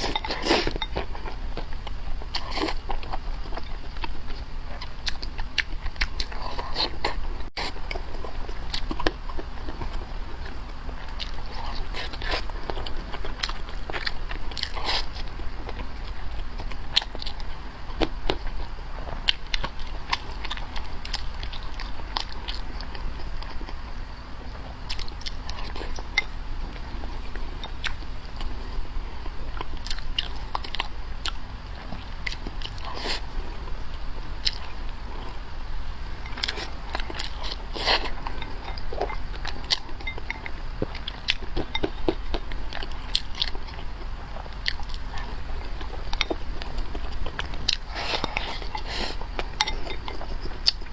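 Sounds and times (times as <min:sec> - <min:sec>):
person chewing and crunching: 0:00.0 - 0:35.4, 0:36.0 - 0:50.9.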